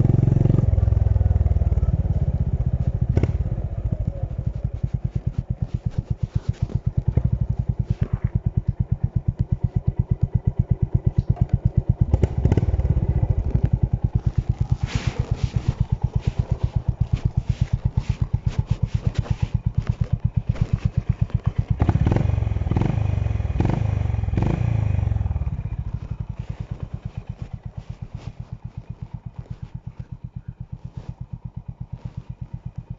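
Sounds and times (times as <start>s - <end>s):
motorcycle engine pulsing: 0.0s - 32.9s.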